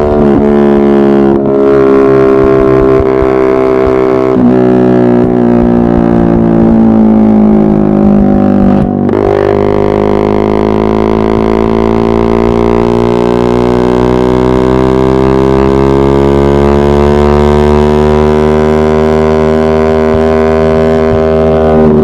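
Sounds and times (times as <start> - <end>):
motorcycle engine revving high: 0.0 - 22.0.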